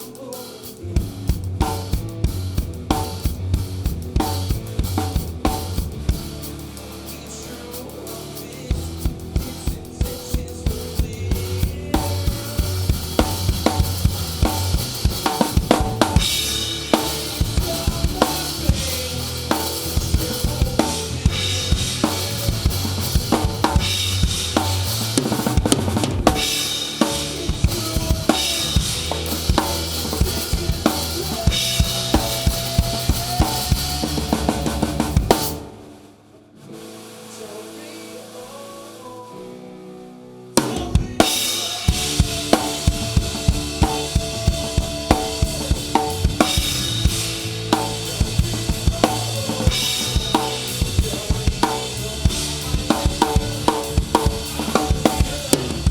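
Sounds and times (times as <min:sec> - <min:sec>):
live rock band playing: 0:00.0 - 0:55.9.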